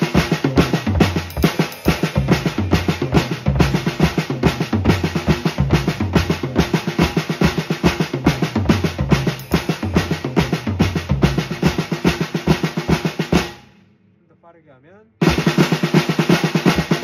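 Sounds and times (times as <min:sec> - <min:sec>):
snare drum triplets: 0:00.0 - 0:13.8, 0:15.2 - 0:17.0.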